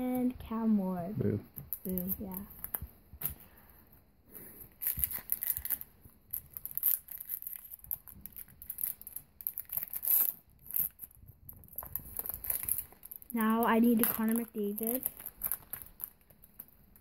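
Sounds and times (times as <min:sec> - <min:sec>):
foil wrapper crackling: 0:01.8 - 0:03.4, 0:04.7 - 0:17.0.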